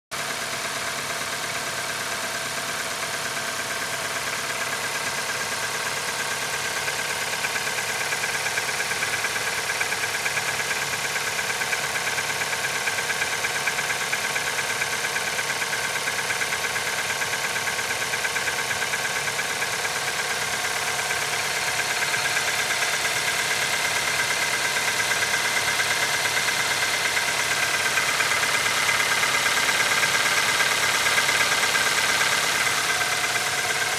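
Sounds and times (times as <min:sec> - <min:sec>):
engine idling with knock: 0:00.2 - 0:33.9.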